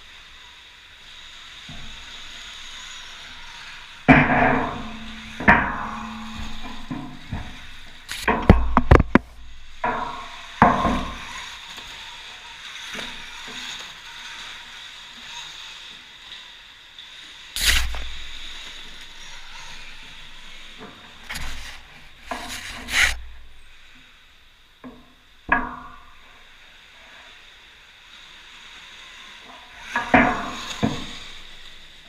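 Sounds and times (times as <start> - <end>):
electric motorbike whine: 0.0 - 32.0.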